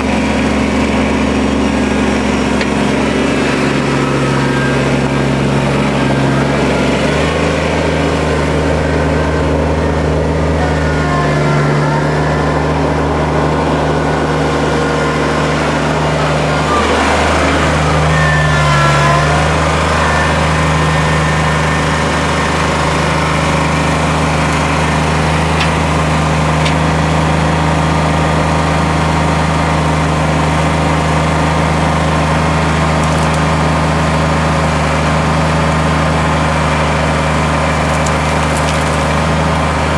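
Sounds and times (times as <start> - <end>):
high whines: 0.0 - 39.9
tractor diesel engine running: 0.0 - 39.9.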